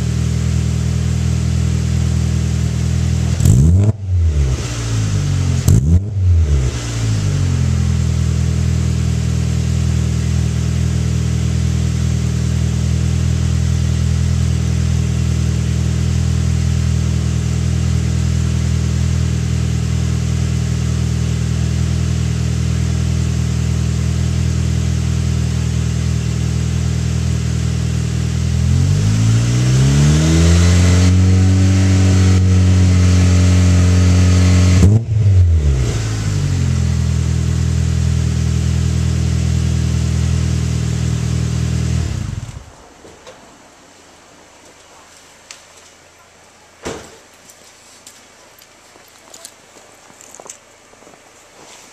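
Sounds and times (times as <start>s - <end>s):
car engine revving and idling: 0.0s - 42.8s.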